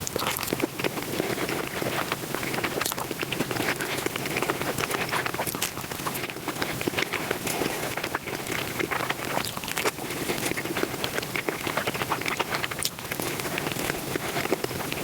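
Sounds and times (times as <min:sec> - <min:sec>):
sped-up chewing and crunching: 0:00.0 - 0:15.0.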